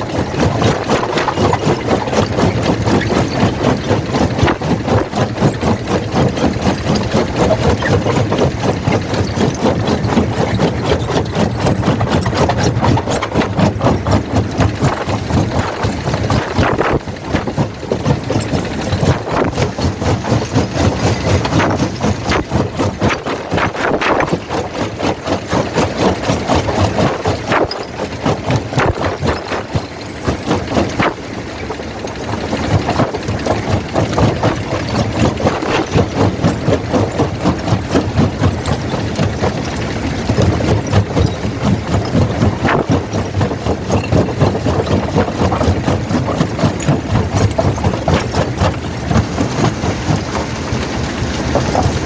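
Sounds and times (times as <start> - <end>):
heavy machinery drone: 0.0 - 52.0
rocks knocking and cracking: 0.0 - 52.0.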